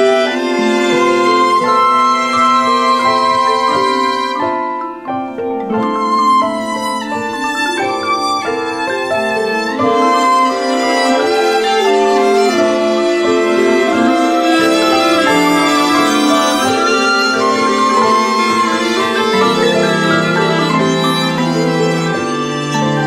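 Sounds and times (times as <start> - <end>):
held string chords: 0.0 - 23.0
violin melody: 0.0 - 23.0.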